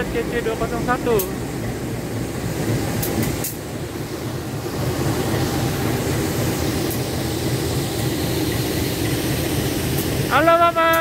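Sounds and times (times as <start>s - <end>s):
locomotive idling: 0.0s - 11.0s.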